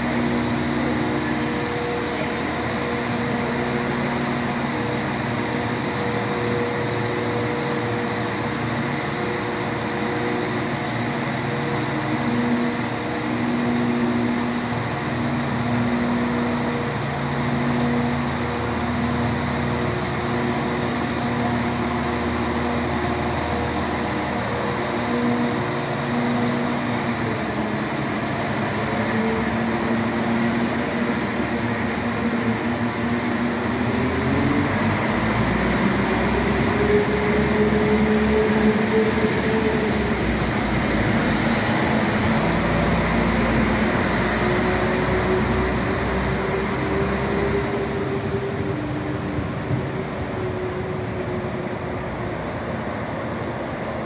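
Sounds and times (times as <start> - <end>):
diesel train engines accelerating: 0.0 - 54.0.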